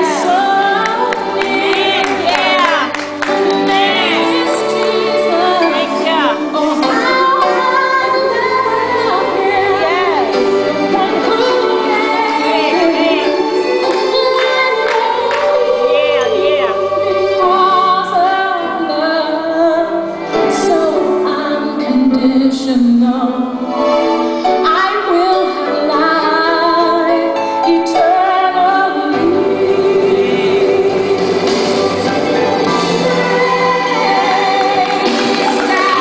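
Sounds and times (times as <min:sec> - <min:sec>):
choir singing: 0:00.0 - 0:21.2, 0:28.0 - 0:36.0
instrumental backing: 0:00.0 - 0:36.0
woman singing with vibrato: 0:00.0 - 0:36.0.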